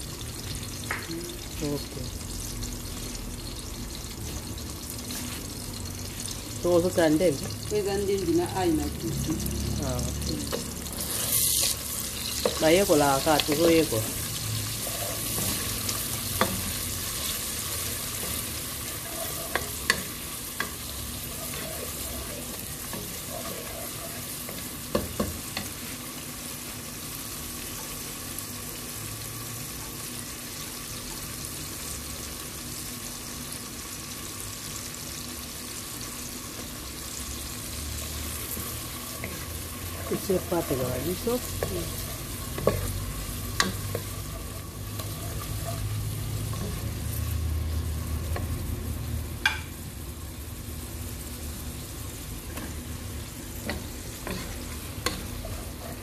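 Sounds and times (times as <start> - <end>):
onions sizzling in oil: 0.0 - 56.0.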